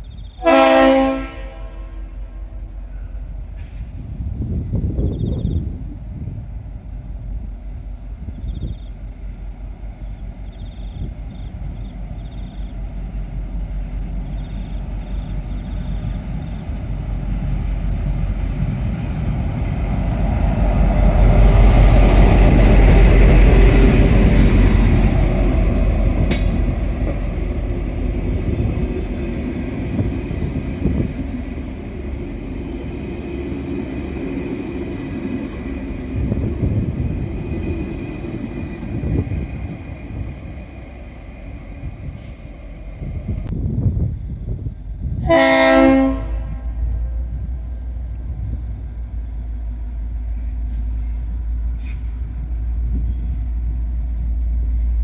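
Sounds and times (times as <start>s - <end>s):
diesel locomotive passing: 0.0s - 55.0s.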